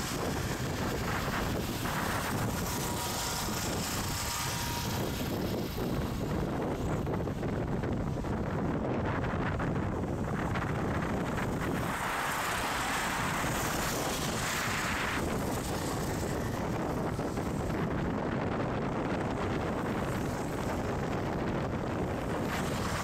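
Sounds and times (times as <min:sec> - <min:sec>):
rumble of vehicles and engines: 0:00.0 - 0:23.0
wind buffeting microphone: 0:00.0 - 0:23.0.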